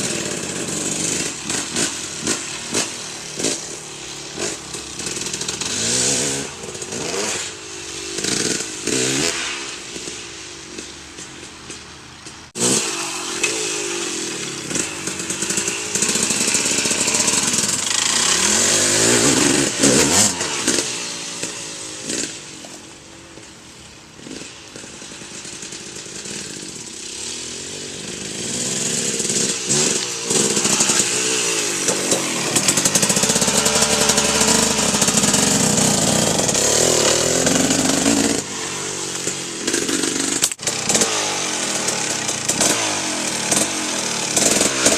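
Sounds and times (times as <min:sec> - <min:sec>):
off-road engine revving: 0:00.0 - 0:23.3, 0:24.1 - 0:44.9.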